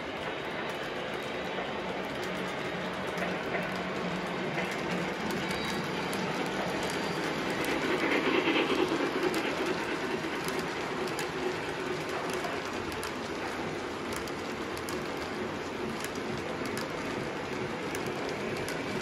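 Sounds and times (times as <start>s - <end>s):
model train wheels clicking: 0.0s - 19.0s.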